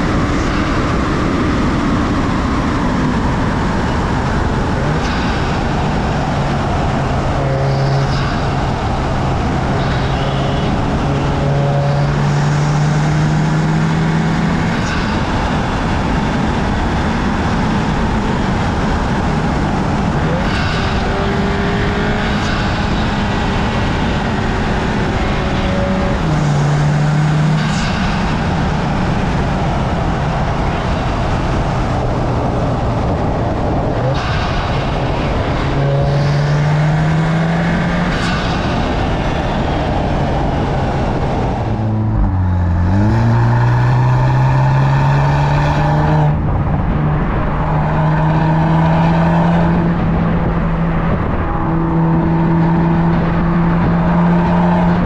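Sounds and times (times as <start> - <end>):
car engine accelerating: 0.0 - 55.0
wind noise: 0.0 - 55.0.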